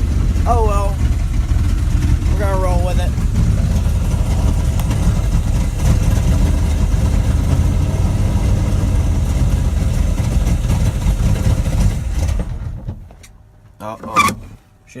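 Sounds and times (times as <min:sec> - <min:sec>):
truck engine idling roughly: 0:00.0 - 0:13.1.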